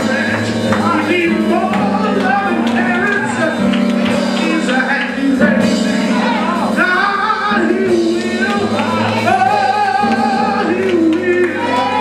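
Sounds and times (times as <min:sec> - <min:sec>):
person singing gospel: 0:00.0 - 0:12.0.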